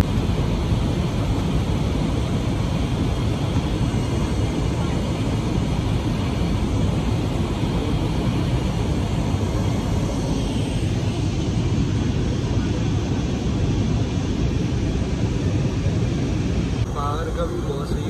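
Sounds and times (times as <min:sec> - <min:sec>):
jet airliner cabin noise: 0:00.0 - 0:18.0.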